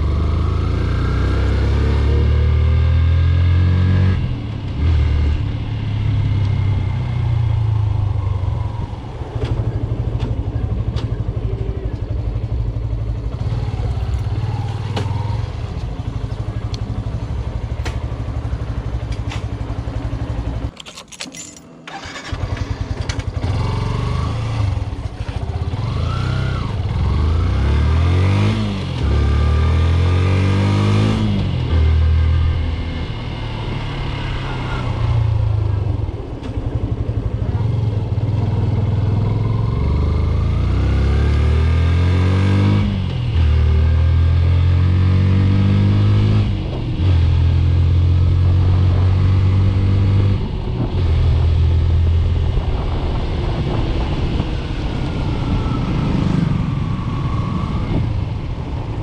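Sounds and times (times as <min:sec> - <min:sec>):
motorcycle engine revving: 0:00.0 - 0:20.7, 0:21.9 - 0:59.0.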